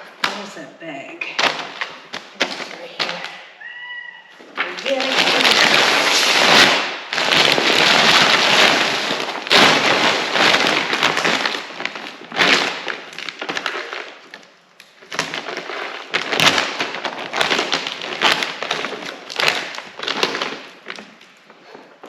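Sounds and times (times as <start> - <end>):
feed bag rustling: 4.3 - 22.0.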